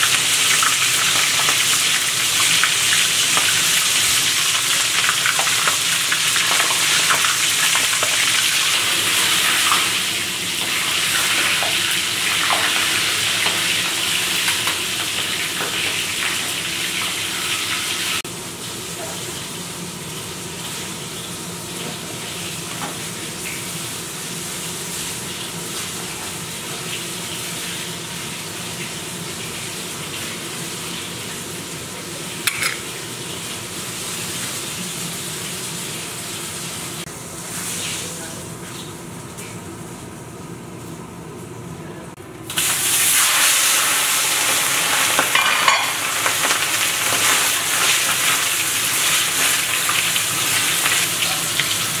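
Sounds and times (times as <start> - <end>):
chicken deep-frying in oil: 0.0 - 52.0.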